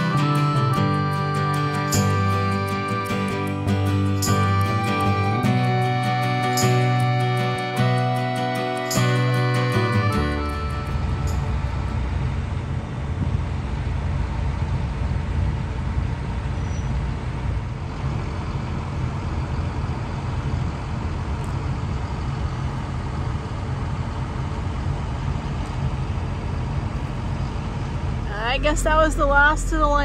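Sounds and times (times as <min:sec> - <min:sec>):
heavy machine engine rumbling: 0:00.0 - 0:30.0.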